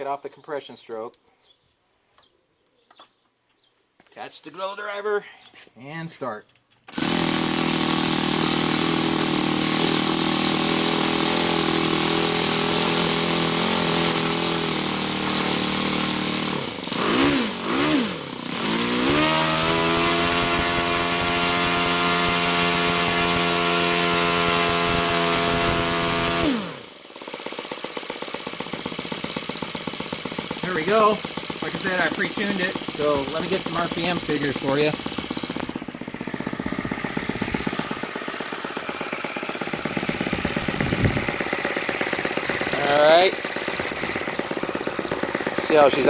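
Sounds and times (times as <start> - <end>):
model aircraft engine running: 6.9 - 46.0.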